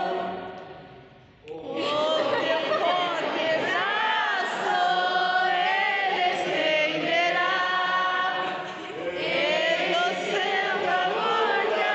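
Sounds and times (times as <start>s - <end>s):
group singing without instruments: 0.0s - 11.9s.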